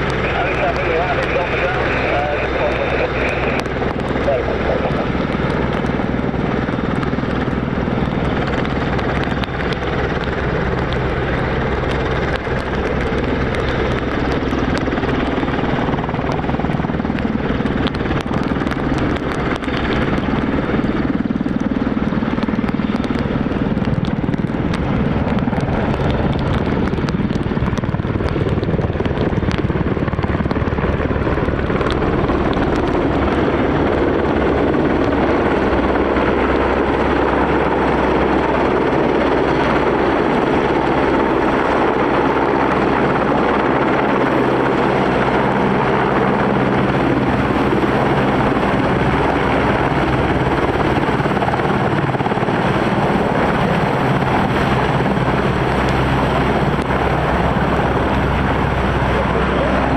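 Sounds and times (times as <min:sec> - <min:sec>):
helicopter engines and rotors droning: 0:00.0 - 0:59.9.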